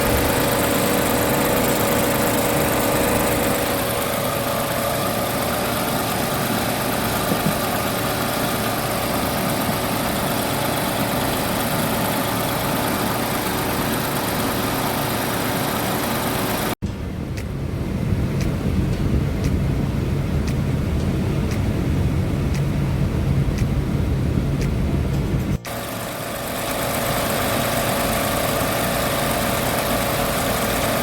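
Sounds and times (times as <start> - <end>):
air conditioning running: 0.0 - 31.0
car engine idling: 0.0 - 31.0.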